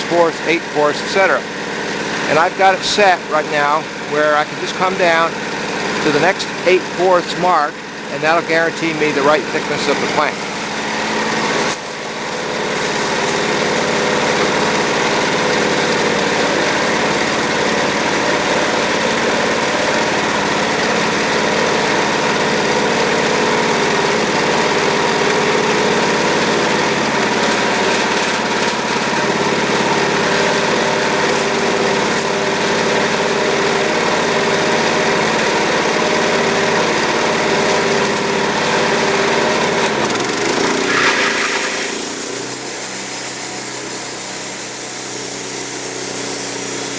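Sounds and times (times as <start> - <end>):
band sawmill sawing log: 0.0 - 46.9.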